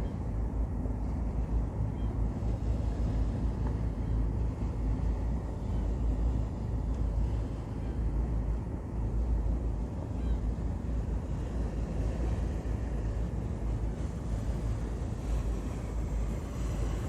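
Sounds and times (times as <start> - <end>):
ship engine rumbling: 0.0 - 17.0.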